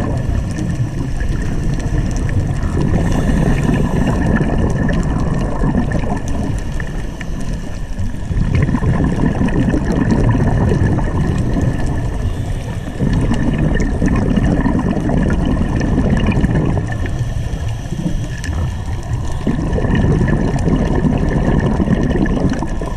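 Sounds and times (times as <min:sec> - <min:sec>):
bubbles gurgling underwater: 0:00.0 - 0:22.9
low underwater rumble: 0:00.0 - 0:22.9.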